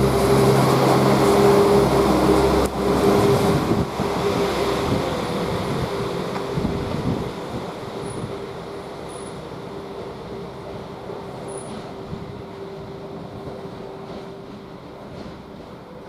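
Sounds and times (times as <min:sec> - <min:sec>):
train engine hum: 0:00.0 - 0:16.0.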